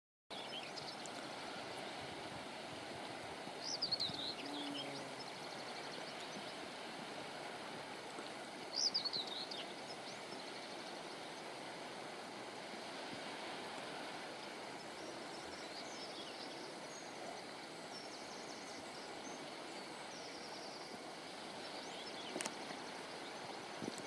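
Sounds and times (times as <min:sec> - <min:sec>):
water rushing: 0:00.3 - 0:24.0.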